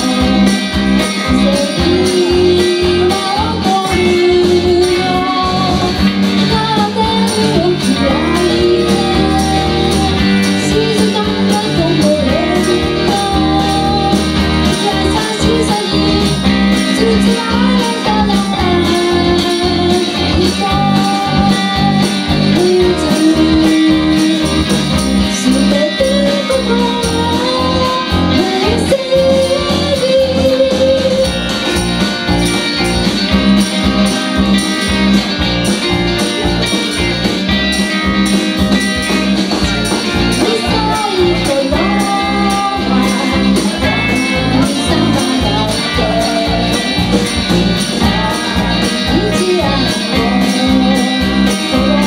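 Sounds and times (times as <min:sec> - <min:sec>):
woman singing: 0:00.0 - 0:31.6, 0:39.6 - 0:52.0
live band playing pop song: 0:00.0 - 0:52.0.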